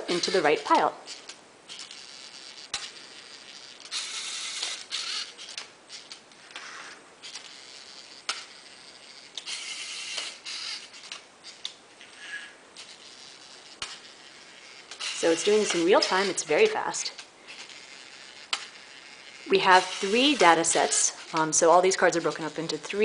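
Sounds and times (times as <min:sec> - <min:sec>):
geared motors whirring: 0:00.0 - 0:23.0.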